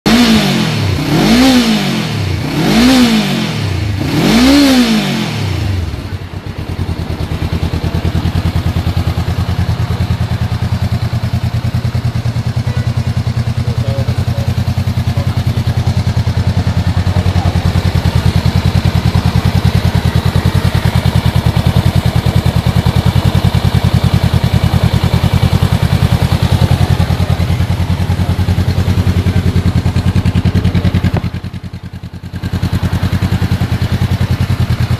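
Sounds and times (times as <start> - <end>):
motorcycle engine idling: 0.1 - 34.9
motorcycle engine revving: 0.1 - 34.9.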